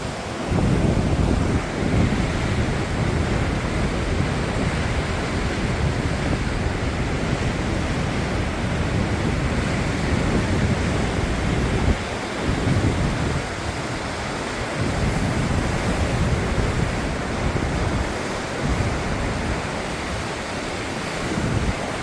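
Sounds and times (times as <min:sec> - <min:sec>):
river rapids rushing: 0:00.0 - 0:22.0
wind buffeting microphone: 0:00.0 - 0:22.0.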